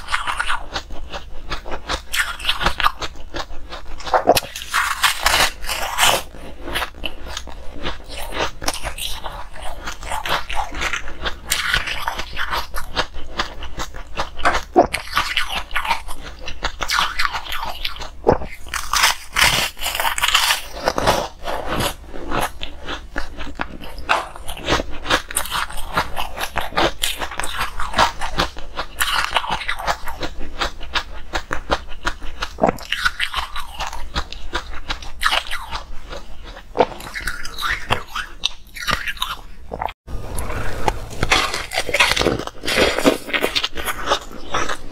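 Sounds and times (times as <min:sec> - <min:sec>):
crunching ice in mouth: 0:00.0 - 0:44.9.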